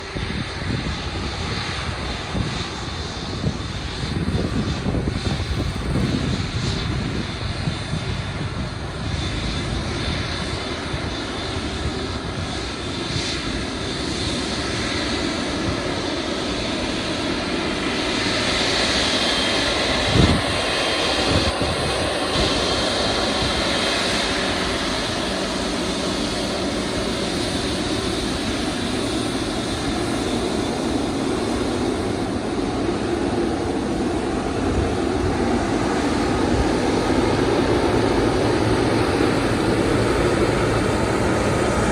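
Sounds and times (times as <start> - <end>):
jet engines landing: 0.0 - 41.9.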